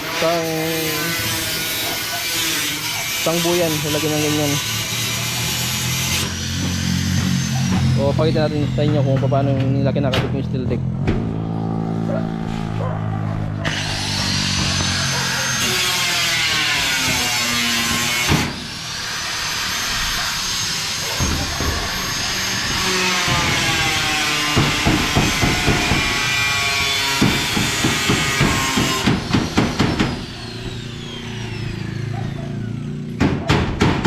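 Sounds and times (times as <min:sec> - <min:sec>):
power tool motor whine: 0:00.0 - 0:09.4, 0:11.2 - 0:33.2.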